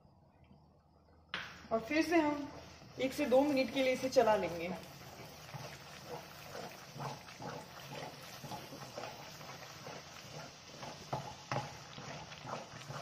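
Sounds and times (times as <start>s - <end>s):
wooden spatula scraping pan: 2.0s - 13.0s.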